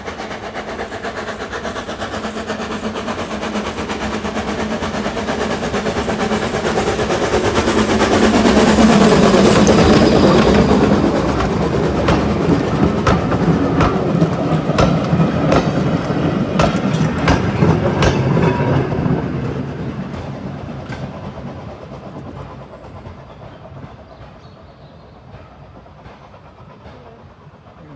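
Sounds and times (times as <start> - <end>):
steam locomotive passing: 0.0 - 27.9
train wheels clicking over rail joints: 0.0 - 27.9.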